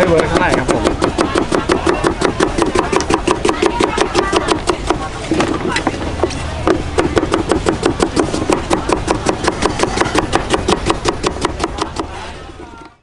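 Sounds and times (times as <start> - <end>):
cleaver chopping on wooden board: 0.1 - 12.1.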